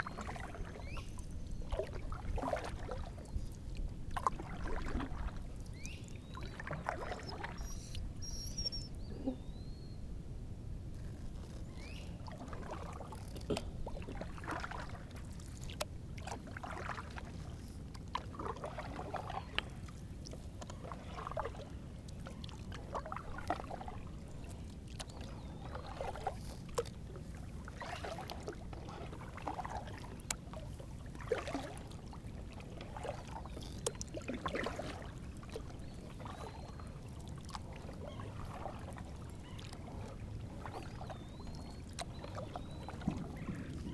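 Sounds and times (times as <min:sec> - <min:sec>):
paddle splashing in water: 0:00.0 - 0:09.4, 0:11.3 - 0:43.9.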